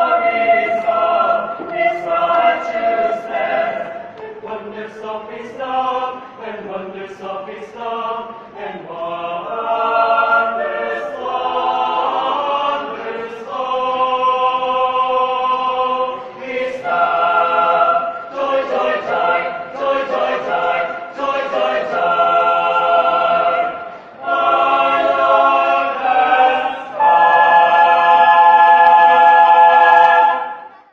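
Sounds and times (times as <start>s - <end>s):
choir singing in harmony: 0.0s - 30.9s.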